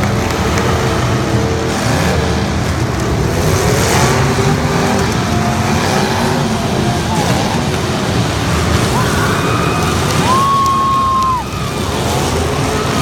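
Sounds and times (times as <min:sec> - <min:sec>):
truck engines running: 0:00.0 - 0:13.0.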